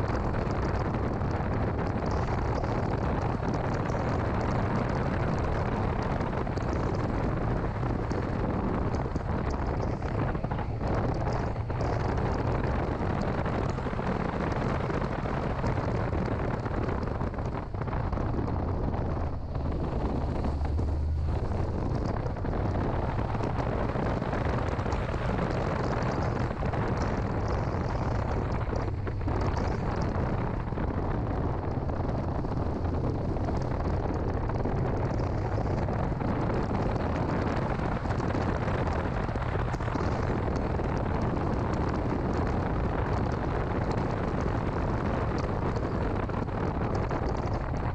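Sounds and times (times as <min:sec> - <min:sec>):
car engine running: 0:00.0 - 0:47.9
road rumble: 0:00.0 - 0:47.9
wind buffeting microphone: 0:00.0 - 0:47.9.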